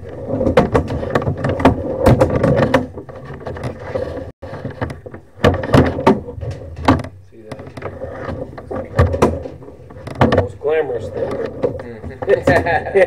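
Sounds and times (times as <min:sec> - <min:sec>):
cable clicks and knocks: 0:00.0 - 0:12.9.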